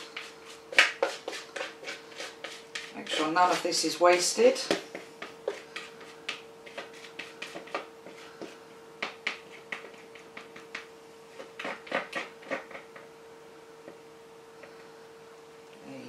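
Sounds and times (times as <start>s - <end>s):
spatula scraping plastic bowl: 0.0s - 13.1s
faint steady hum: 0.0s - 16.0s.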